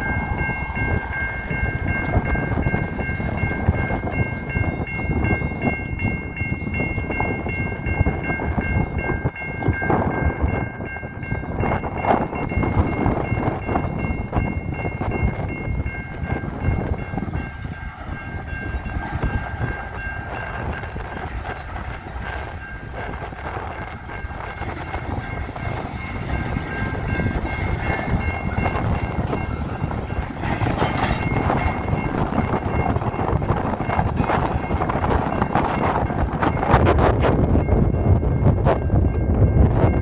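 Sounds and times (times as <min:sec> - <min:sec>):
crossing signal bell ringing: 0:00.0 - 0:40.0
train wheels clattering on rails: 0:00.0 - 0:40.0.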